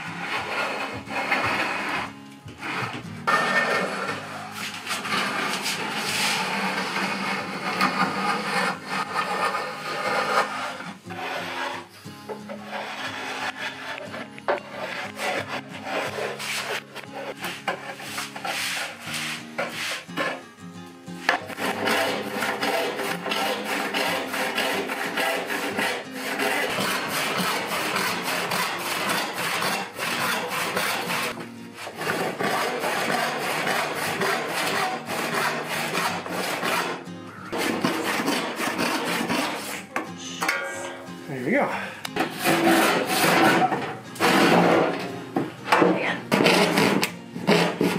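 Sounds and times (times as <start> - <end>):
hand saw cutting wood: 0.0 - 11.9, 12.5 - 20.5, 21.2 - 40.1, 42.1 - 45.0, 46.3 - 47.9
quiet background music: 0.0 - 47.9
hand plane scraping wood: 0.1 - 20.5, 21.2 - 40.2, 42.1 - 45.0, 46.3 - 47.9.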